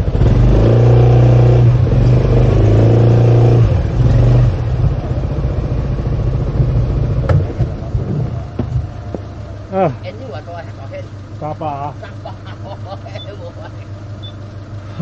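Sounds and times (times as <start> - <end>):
motor scooter engine running: 0.0 - 15.0.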